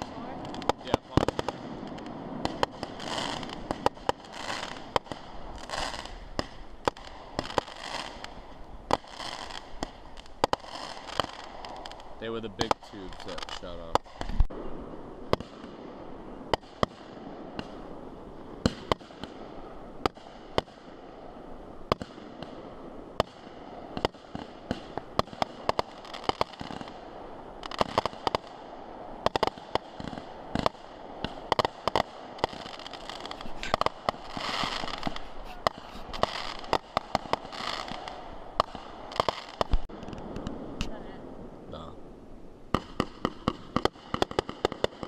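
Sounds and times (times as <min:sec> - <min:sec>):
fireworks bangs: 0:00.0 - 0:42.0, 0:42.7 - 0:45.0
crackling firework bursts: 0:00.0 - 0:45.0.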